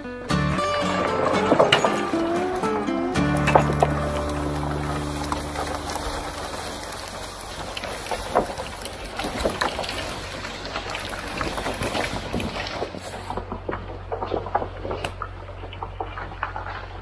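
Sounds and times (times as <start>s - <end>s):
wood cracking and knocking: 0.6s - 17.0s.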